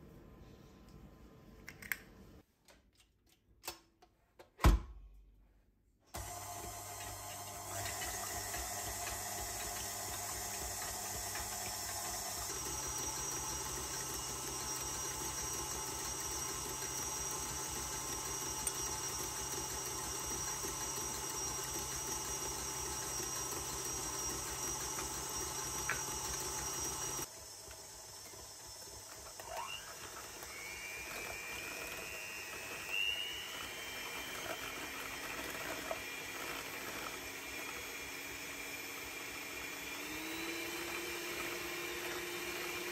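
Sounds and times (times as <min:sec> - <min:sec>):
hand mixer whine: 0:06.2 - 0:42.9
stand mixer motor hum: 0:06.2 - 0:42.9.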